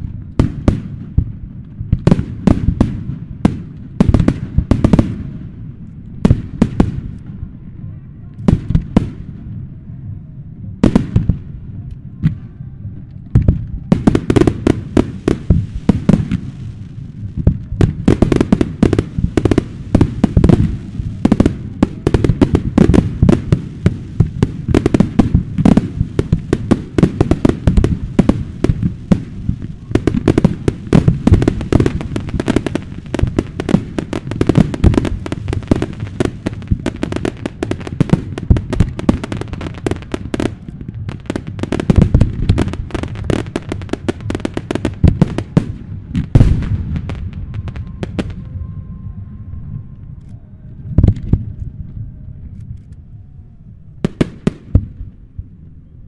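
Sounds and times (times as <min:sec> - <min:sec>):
fireworks bangs and booms: 0:00.0 - 0:49.9, 0:50.8 - 0:52.1, 0:54.0 - 0:55.6.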